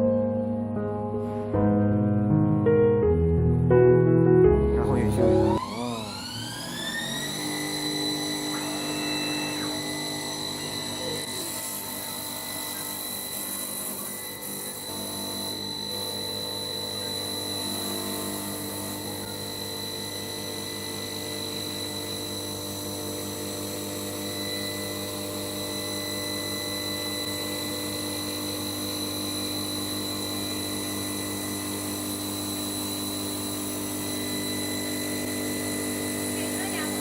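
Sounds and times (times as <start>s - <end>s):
lathe hum with high whine: 5.3s - 37.0s.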